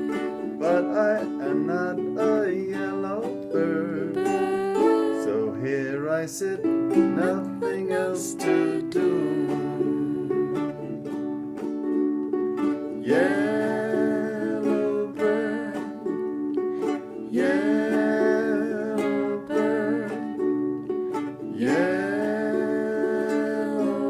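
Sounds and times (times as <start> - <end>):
wordless vocal notes: 0.0 - 11.1, 12.9 - 24.0
strummed ukulele chords: 0.0 - 24.0.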